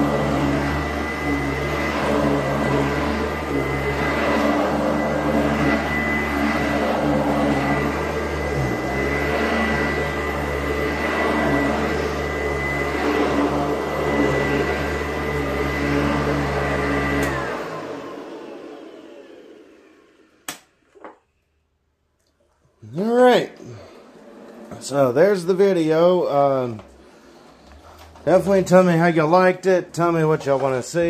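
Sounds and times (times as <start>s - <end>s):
vacuum cleaner whine: 0.0s - 21.1s, 23.0s - 31.0s.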